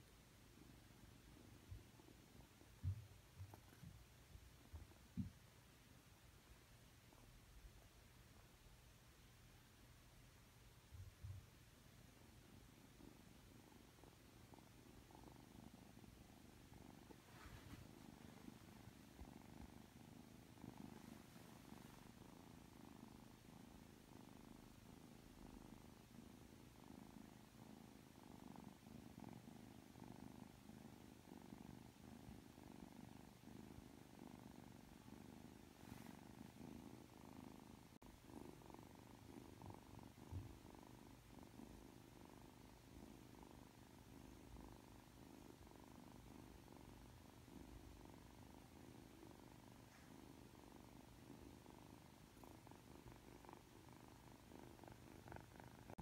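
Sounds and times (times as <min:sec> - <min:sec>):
kitten purring: 0:00.0 - 0:56.0.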